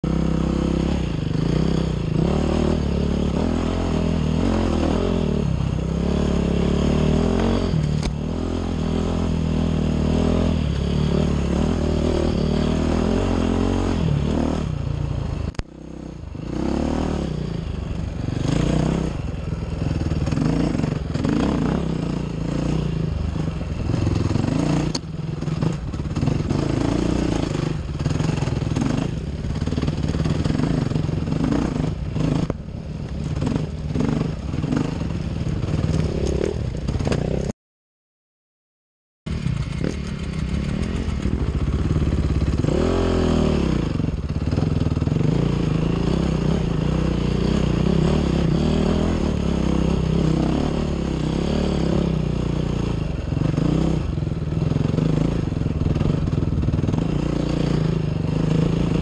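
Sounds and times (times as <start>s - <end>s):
motorcycle engine revving: 0.0s - 37.5s, 39.3s - 59.0s.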